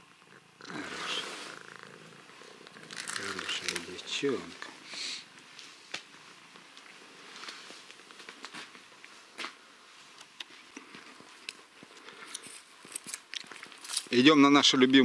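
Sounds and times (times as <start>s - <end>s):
low hiss: 0.0s - 15.0s
faint footsteps: 2.2s - 14.3s.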